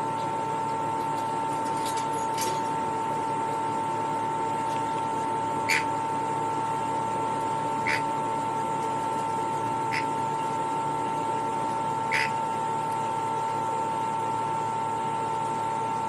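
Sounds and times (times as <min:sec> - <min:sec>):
constant high whine: 0:00.0 - 0:16.0
steady hum: 0:00.0 - 0:16.0.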